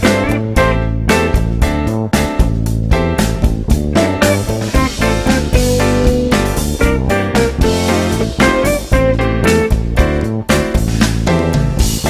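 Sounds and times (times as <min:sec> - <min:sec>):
electric guitar playing jazz blues: 0:00.0 - 0:12.0
walking bass line: 0:00.0 - 0:12.0.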